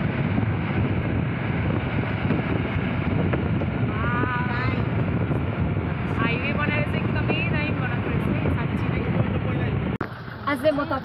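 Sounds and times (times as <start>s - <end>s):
vehicle road and engine noise: 0.0s - 11.0s
wind buffeting microphone: 0.0s - 11.0s.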